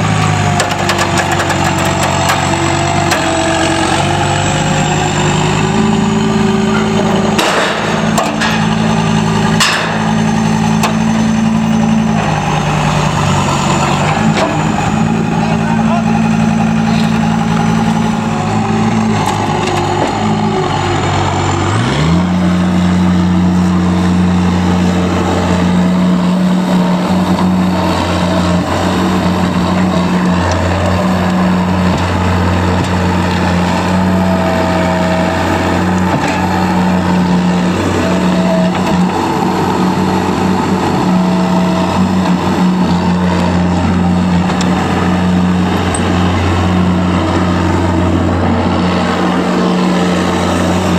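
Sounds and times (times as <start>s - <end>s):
heavy vehicle engine revving: 0.0s - 50.9s.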